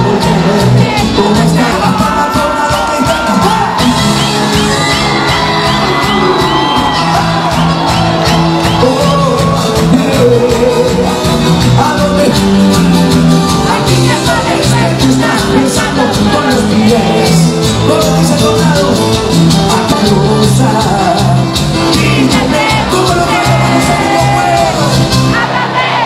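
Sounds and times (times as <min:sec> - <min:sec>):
crowd shouting and singing along: 0:00.0 - 0:26.0
live band music: 0:00.0 - 0:26.0.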